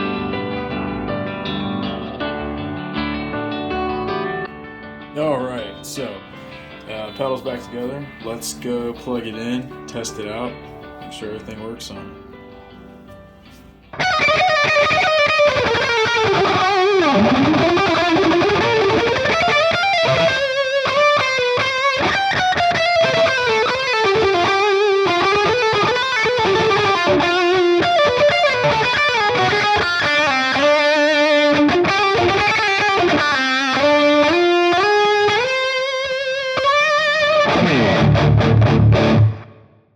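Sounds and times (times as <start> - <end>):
overdriven electric guitar lead: 0.0 - 12.8, 13.9 - 39.8.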